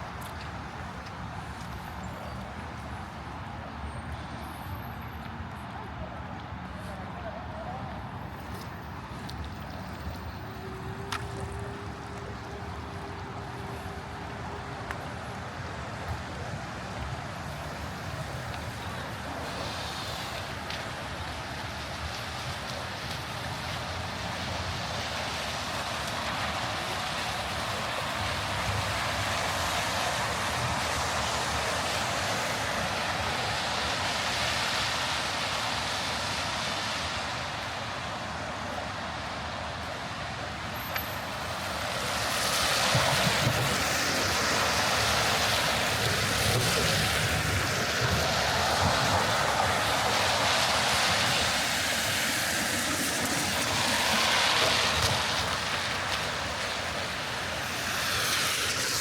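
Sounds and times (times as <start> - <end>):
tyres hissing on wet pavement: 0.0 - 59.0.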